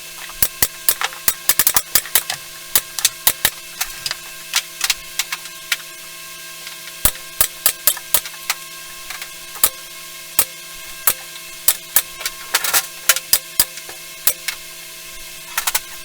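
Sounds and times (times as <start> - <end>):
tools and parts clicking: 0.2 - 5.8, 6.6 - 9.8, 10.4 - 14.6, 15.5 - 16.0.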